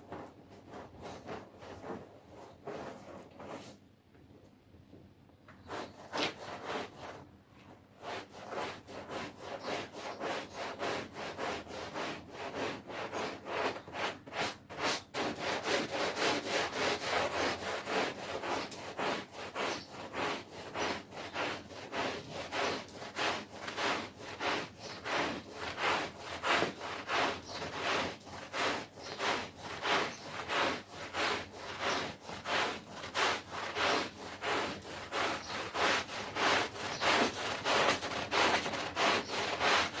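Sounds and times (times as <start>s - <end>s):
brush scrubbing carpet: 0.0s - 3.8s, 5.6s - 40.0s.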